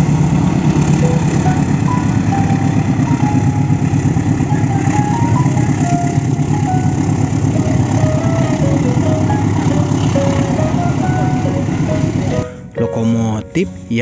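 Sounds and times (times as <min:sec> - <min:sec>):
engine-like rumble: 0:00.0 - 0:14.0
simple tune of single notes: 0:01.0 - 0:14.0.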